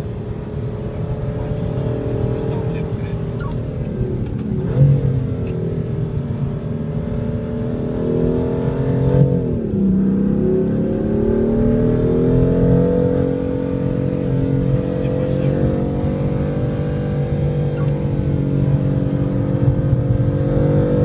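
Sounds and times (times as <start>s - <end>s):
car engine accelerating: 0.0s - 21.0s
gear change: 0.3s - 8.2s, 10.7s - 20.7s.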